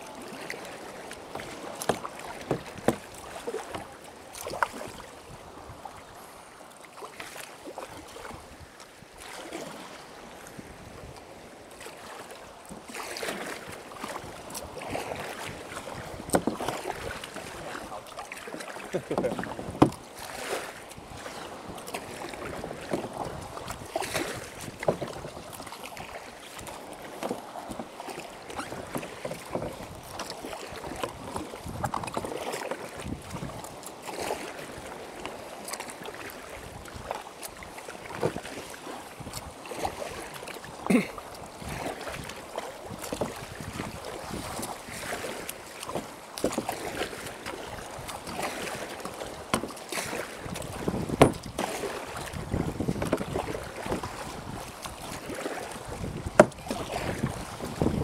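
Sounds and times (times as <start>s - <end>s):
paddle splashing in water: 0.0s - 58.0s
water lapping at hull: 0.0s - 58.0s.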